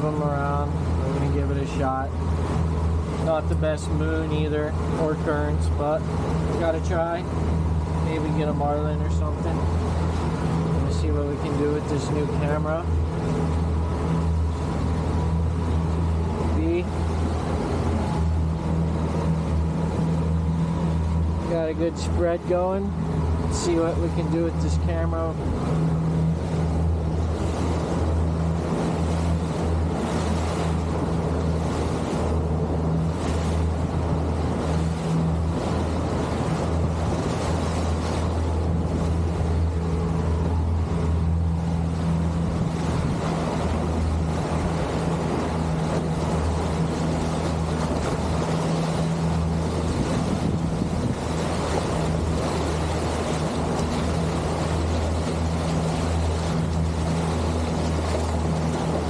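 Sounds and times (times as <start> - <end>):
boat motor running: 0.0 - 59.0
water noise: 0.0 - 59.0
wind: 0.0 - 59.0.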